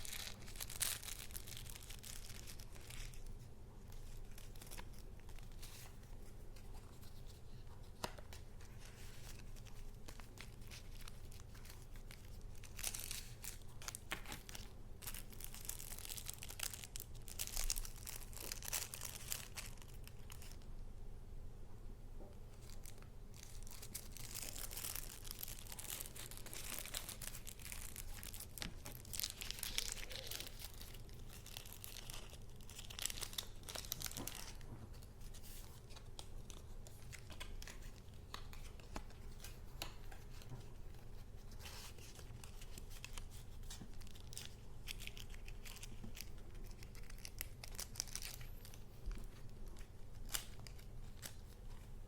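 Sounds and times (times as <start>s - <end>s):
paper rustling and crinkling: 0.0s - 20.7s, 22.5s - 52.0s
faint low hum: 0.0s - 52.0s.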